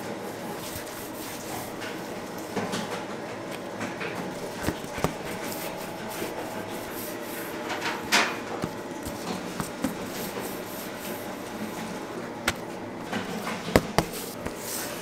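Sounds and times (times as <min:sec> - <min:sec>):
steady background hum: 0:00.0 - 0:15.0
rubbing and handling sounds: 0:00.4 - 0:02.0, 0:04.2 - 0:15.0.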